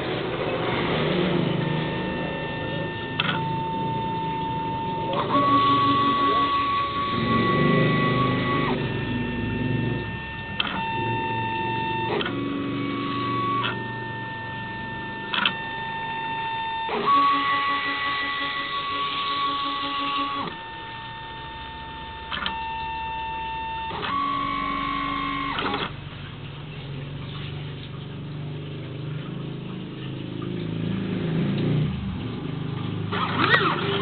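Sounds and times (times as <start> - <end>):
uneven whirring of cutting head: 0.0 - 26.0, 30.4 - 34.0
cutting plotter motors whining: 0.0 - 26.2, 30.5 - 34.0.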